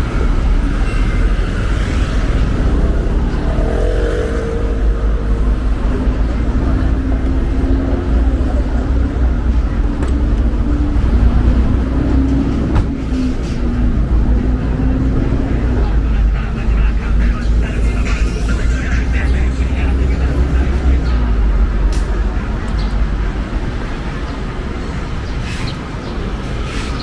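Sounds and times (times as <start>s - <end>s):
vehicle engines rumbling: 0.0s - 27.0s.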